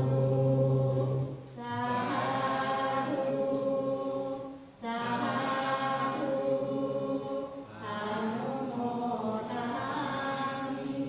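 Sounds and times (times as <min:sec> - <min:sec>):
group chanting in unison: 0:00.0 - 0:11.0.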